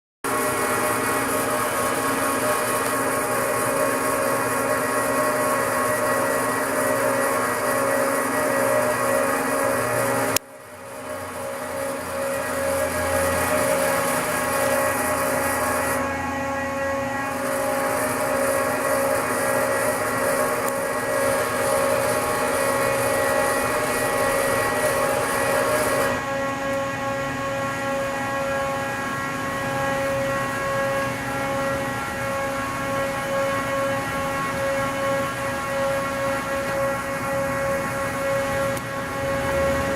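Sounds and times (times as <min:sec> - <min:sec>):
machine hum and whine: 0:00.2 - 0:39.9.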